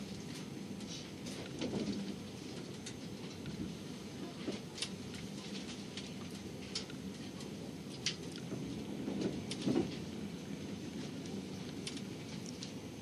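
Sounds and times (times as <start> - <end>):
clicks and rattles of train: 0.0 - 13.0
train rumble from inside carriage: 0.0 - 13.0.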